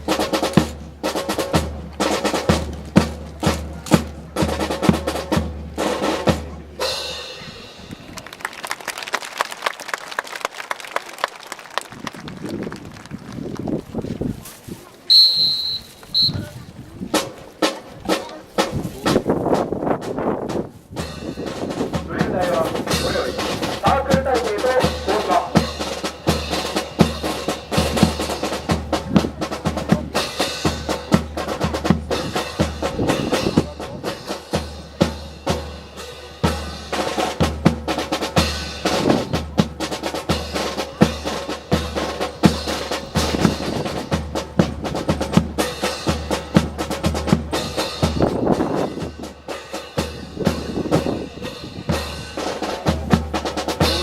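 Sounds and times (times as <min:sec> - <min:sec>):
low drum beat: 0:00.0 - 0:08.2, 0:15.5 - 0:54.0
marching snare drum rolls: 0:00.0 - 0:08.8, 0:15.1 - 0:16.5, 0:17.1 - 0:54.0.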